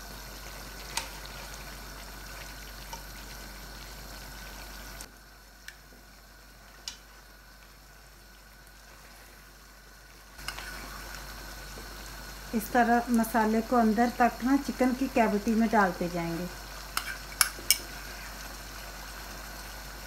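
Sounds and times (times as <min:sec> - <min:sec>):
gravy sizzling in a wok: 0:00.0 - 0:20.0.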